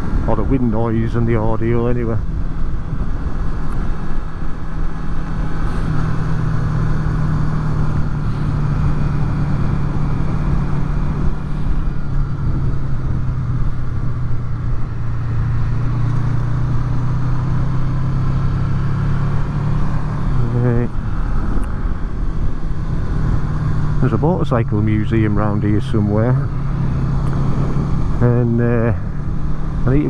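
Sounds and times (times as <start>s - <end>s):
motorcycle engine cruising: 0.0s - 30.0s
wind and road noise: 0.0s - 30.0s.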